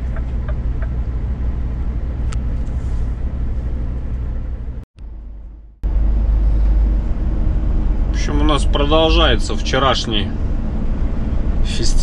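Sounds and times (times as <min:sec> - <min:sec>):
truck engine drone from cab: 0:00.0 - 0:12.0.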